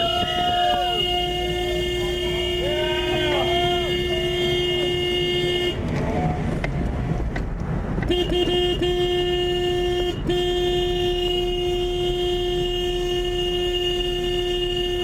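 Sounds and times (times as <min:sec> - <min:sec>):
vehicle horn honking: 0:00.0 - 0:05.9, 0:08.1 - 0:15.0.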